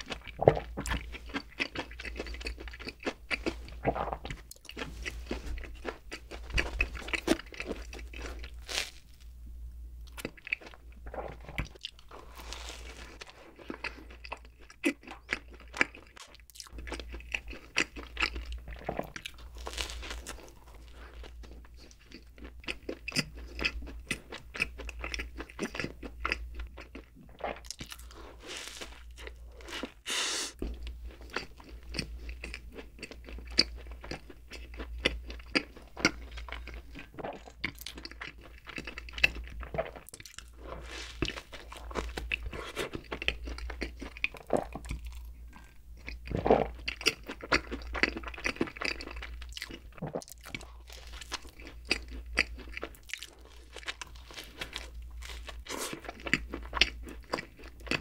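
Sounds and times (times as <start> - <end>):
chewing and crunching bun: 0.0 - 9.4, 10.0 - 58.0.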